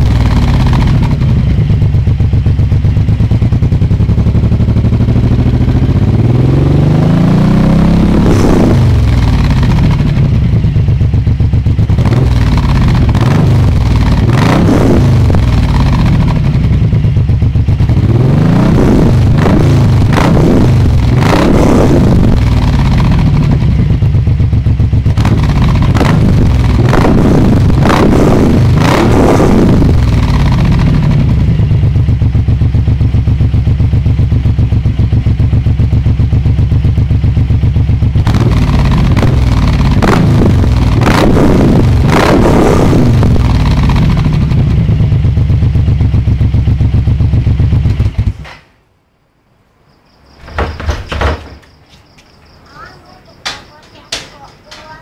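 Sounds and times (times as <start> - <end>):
motorcycle engine idling: 0.0 - 29.0, 29.6 - 48.5
motorcycle throttle blips: 0.0 - 48.6.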